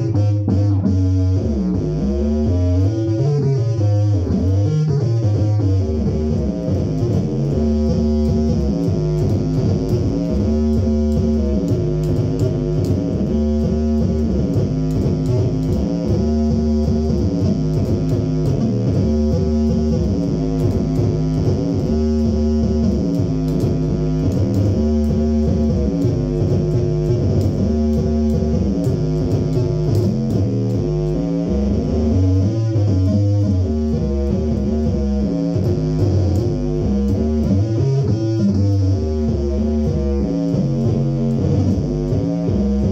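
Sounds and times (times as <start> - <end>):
electric bass guitar sliding notes: 0.0 - 42.9.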